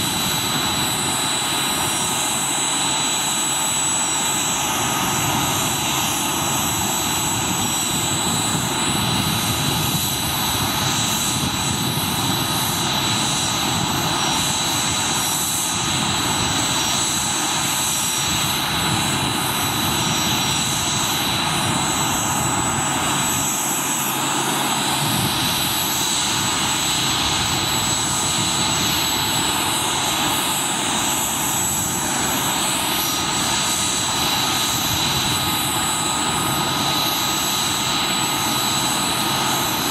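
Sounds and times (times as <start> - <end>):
helicopter engines idling: 0.0 - 39.9.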